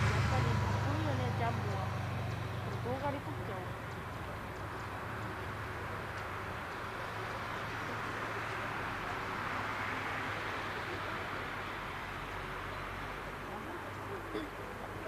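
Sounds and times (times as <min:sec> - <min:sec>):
distant jet airliner engine: 0:00.0 - 0:15.0.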